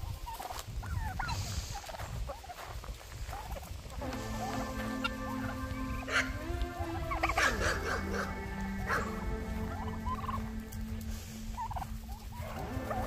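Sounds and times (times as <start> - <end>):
turkeys gobbling: 0.0 - 13.0.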